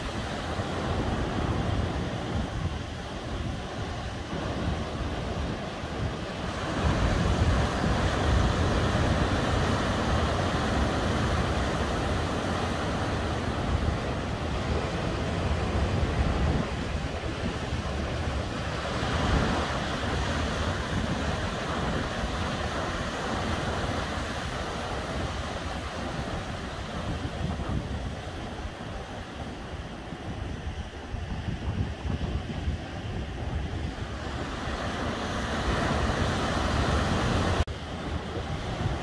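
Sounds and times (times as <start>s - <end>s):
ocean waves breaking on shore: 0.0s - 39.0s.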